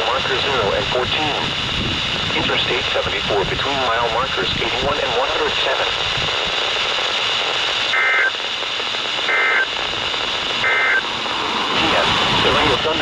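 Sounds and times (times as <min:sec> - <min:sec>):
radio hiss: 0:00.0 - 0:13.0
warbling data bursts: 0:02.4 - 0:13.0.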